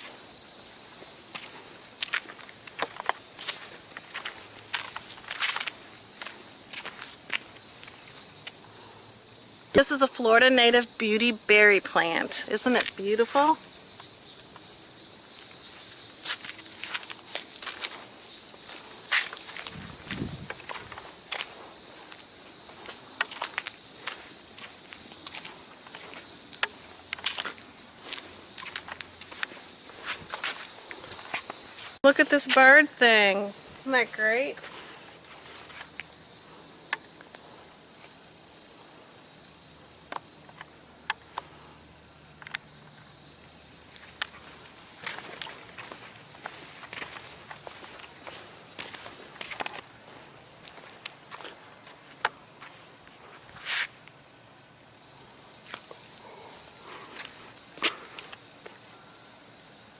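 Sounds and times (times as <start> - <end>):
footsteps on trail: 0.0 - 8.6, 11.9 - 38.2, 42.4 - 53.9, 55.6 - 58.9
insects chorus: 0.0 - 59.9.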